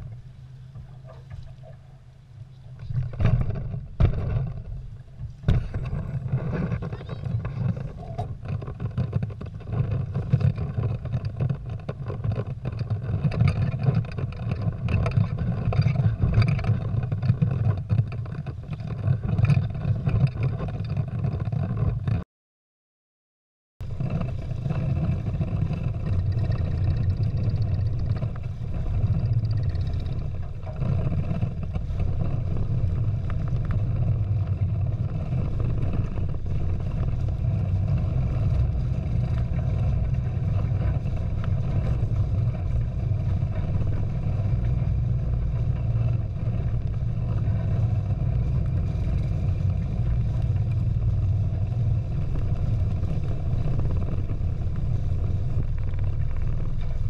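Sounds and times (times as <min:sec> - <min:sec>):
water rushing along hulls: 0:00.0 - 0:22.2, 0:23.8 - 0:57.0
wind rumble on microphone: 0:00.0 - 0:22.2, 0:23.8 - 0:57.0.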